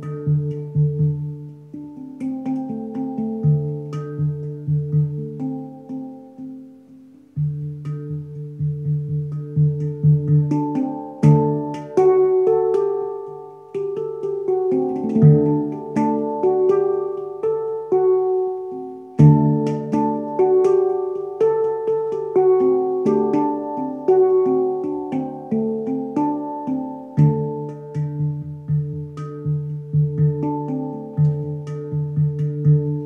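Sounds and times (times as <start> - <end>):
hang drum melody: 0.0 - 33.0.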